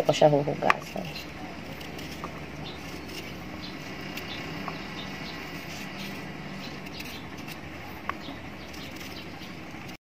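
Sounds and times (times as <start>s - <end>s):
steady background hum: 0.0s - 10.0s
knife scraping potato skin: 0.6s - 10.0s.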